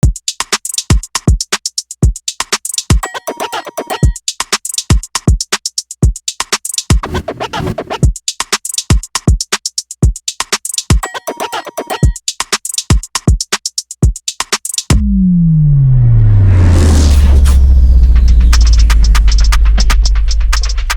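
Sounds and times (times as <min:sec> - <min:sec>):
electronic music with fast beat: 0:00.0 - 0:15.0, 0:16.8 - 0:20.9.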